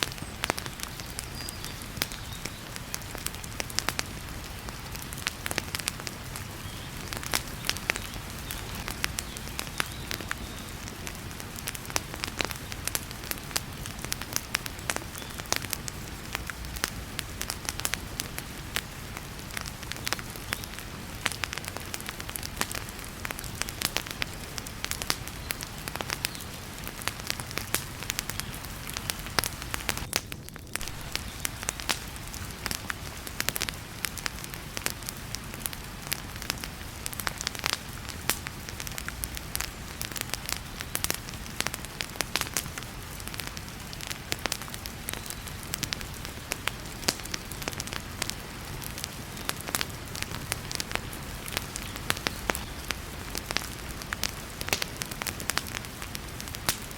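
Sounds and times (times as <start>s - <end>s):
heavy rain hiss: 0.0s - 30.1s, 30.8s - 56.9s
wood fire crackling: 0.0s - 56.9s.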